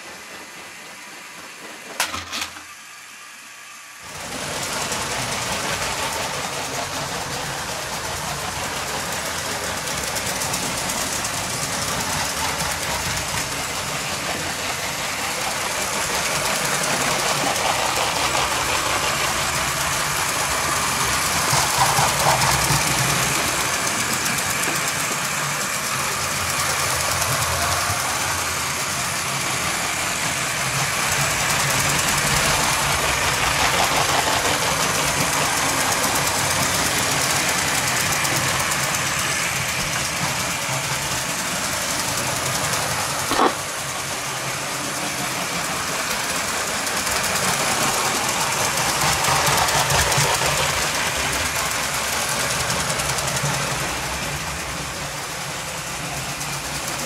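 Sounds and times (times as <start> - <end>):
toy train wheels rattling: 4.2 - 57.0.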